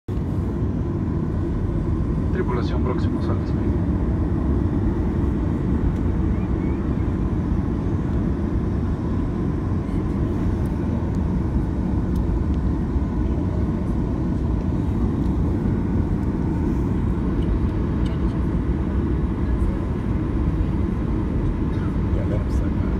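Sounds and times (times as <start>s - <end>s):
jet engine rumble inside cabin: 0.1s - 22.9s.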